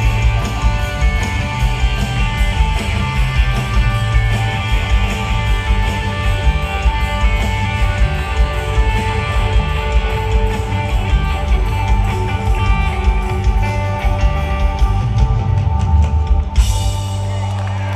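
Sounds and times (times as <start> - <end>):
bass guitar: 0.0 - 17.9
distorted electric guitars: 0.0 - 17.9.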